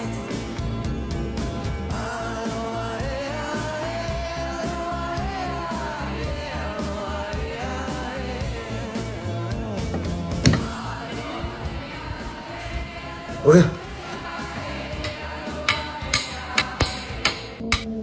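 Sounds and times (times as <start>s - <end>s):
song with sung melody: 0.0s - 18.0s.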